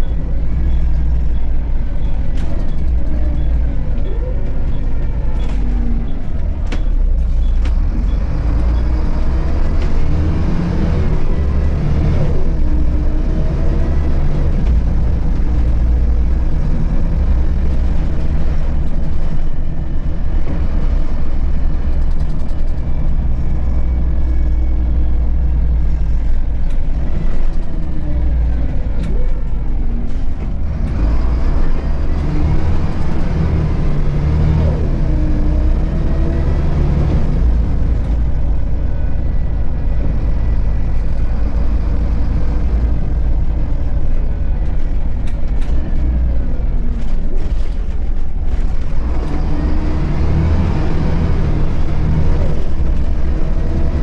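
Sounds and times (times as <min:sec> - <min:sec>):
bus diesel engine rumble: 0:00.0 - 0:54.0.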